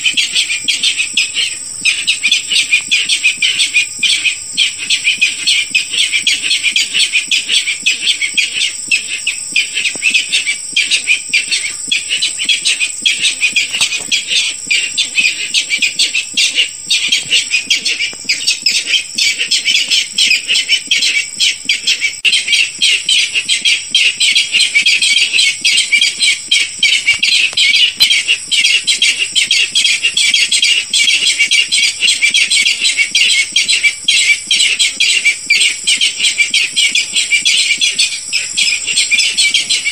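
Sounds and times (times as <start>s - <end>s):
rapid high-pitched rail calls: 0.0s - 39.9s.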